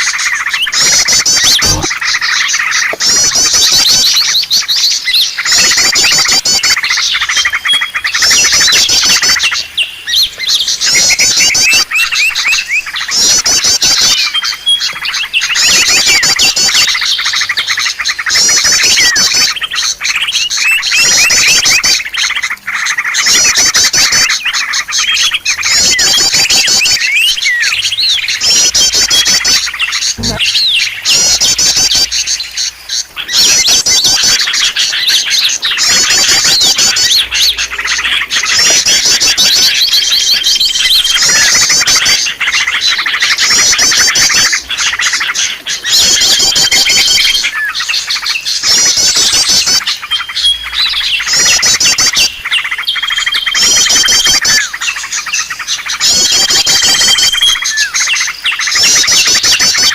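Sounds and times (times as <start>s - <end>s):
birds twittering: 0.0s - 59.9s
songbirds trilling chirps: 0.0s - 59.9s.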